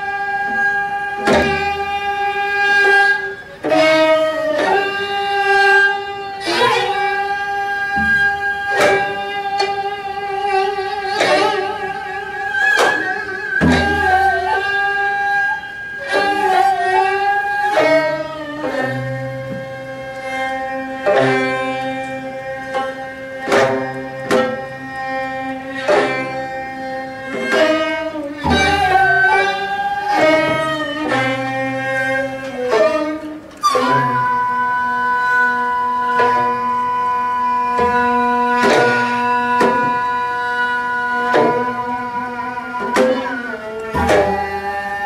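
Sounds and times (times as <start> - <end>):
plucked zither: 0.0 - 45.0
wavering wind and bowed strings: 0.0 - 45.0.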